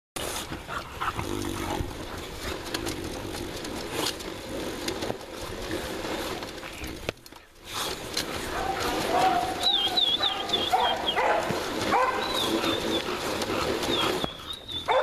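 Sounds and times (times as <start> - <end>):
dog treadmill rollers turning: 0.2 - 15.0.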